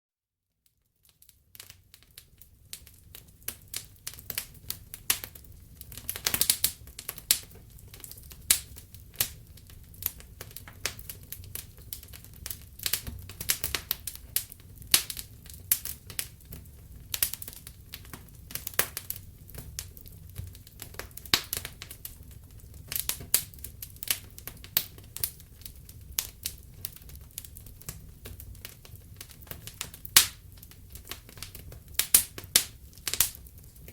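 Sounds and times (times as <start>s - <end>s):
burning wood popping and snapping: 1.5s - 33.9s
low rumble of flames: 1.8s - 33.9s.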